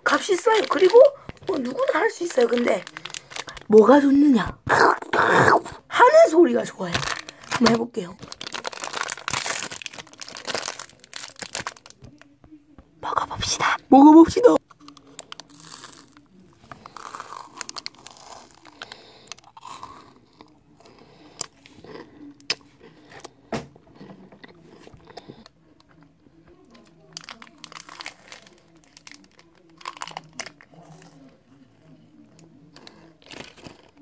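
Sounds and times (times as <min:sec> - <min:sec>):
chocolate bar crunching: 0:00.0 - 0:05.9, 0:06.8 - 0:12.3, 0:14.6 - 0:34.0.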